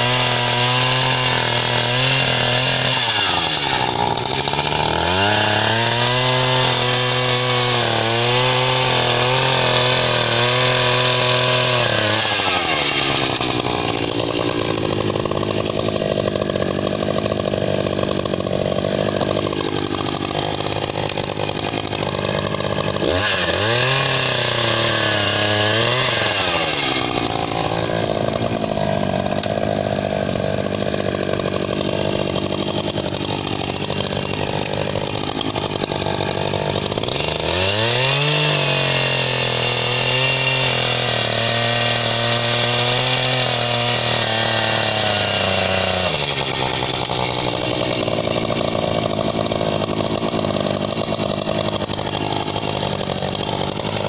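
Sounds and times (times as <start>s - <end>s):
chainsaw cutting log: 0.0s - 54.0s
chainsaw idling: 0.0s - 54.0s.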